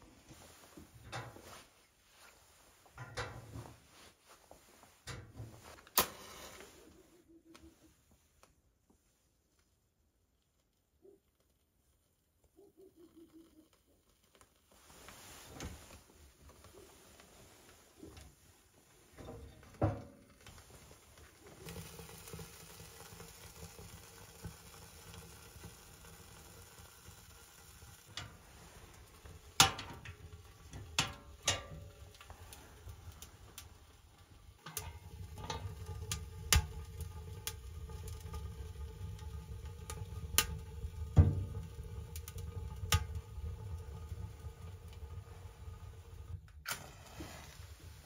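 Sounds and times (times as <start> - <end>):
fire crackling in a stove: 0.0 - 48.0
burning wood popping: 2.8 - 6.9, 10.2 - 48.0.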